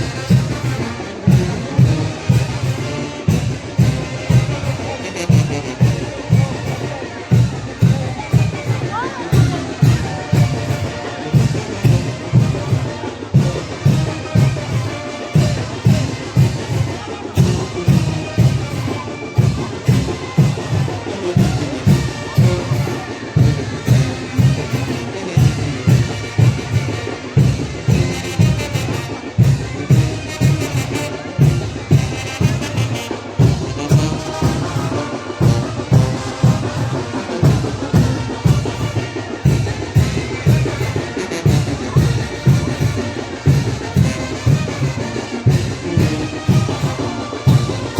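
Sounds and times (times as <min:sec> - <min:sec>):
brass playing a tune: 0:00.0 - 0:07.4, 0:08.4 - 0:47.9
driving drum beat: 0:00.0 - 0:47.9.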